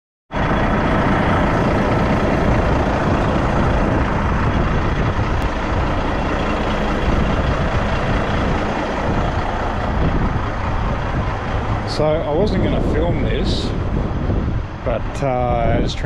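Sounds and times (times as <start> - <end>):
truck engine rumble: 0.3 - 16.0.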